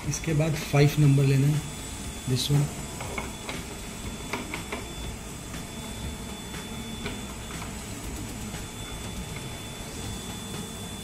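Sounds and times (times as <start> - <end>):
grinder high whine: 0.0 - 11.0.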